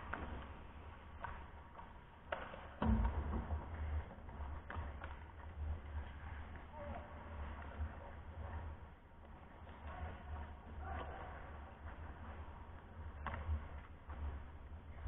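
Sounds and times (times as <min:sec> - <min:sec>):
hockey sticks and puck clacking: 0:00.0 - 0:15.0.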